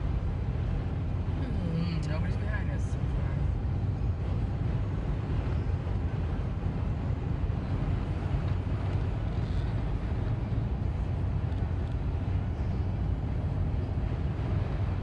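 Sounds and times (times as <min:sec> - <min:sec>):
car engine and tyre noise: 0:00.0 - 0:15.0
wind outside car: 0:00.0 - 0:15.0.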